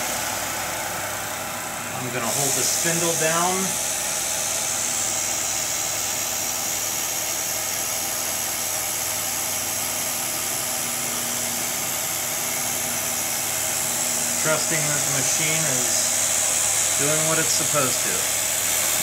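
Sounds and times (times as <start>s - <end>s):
hiss of coolant spraying: 0.0s - 19.0s
milling machine humming: 0.0s - 19.0s.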